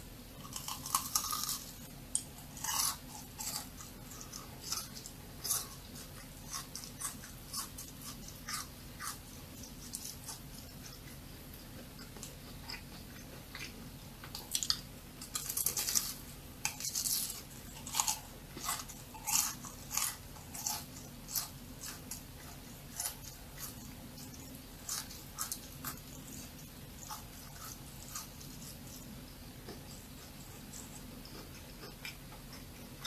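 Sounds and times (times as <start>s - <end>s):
crunchy chewing: 0.3s - 33.0s.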